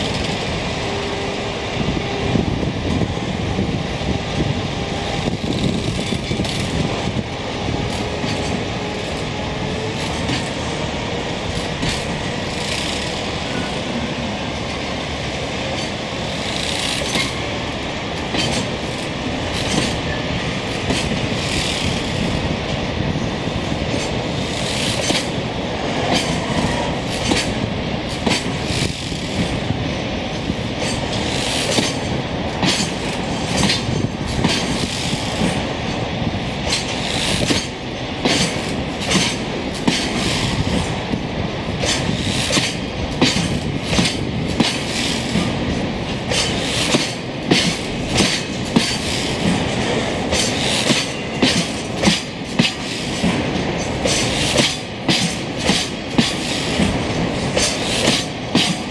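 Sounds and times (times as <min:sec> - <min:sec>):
freight train rolling rumble: 0:00.0 - 0:58.9
wheels clacking over rail joints: 0:04.9 - 0:58.9.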